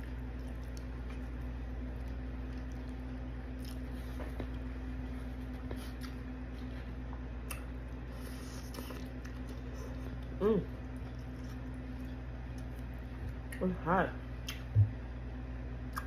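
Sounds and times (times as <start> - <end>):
chewing and squishy mouth sounds: 0.0 - 13.7
steady low hum: 0.0 - 16.0.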